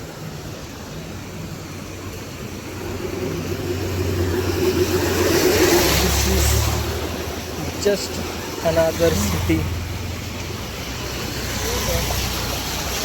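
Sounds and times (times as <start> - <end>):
vehicle engine approaching: 1.3 - 13.0.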